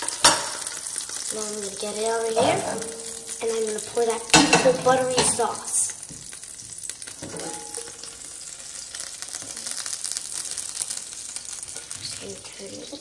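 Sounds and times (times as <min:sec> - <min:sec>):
sauce sizzling in frying pan: 0:00.0 - 0:13.0.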